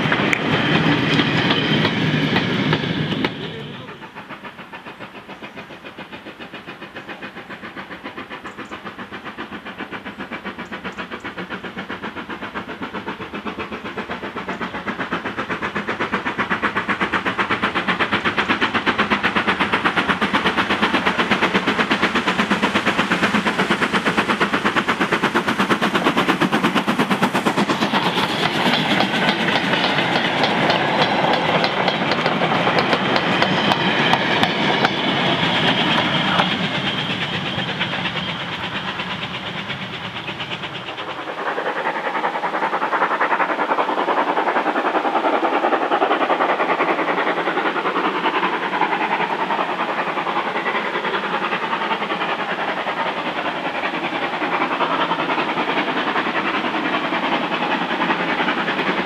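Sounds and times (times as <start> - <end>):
steam locomotive exhaust beats: 0.0 - 59.0
wagons rattling on rails: 0.0 - 59.0.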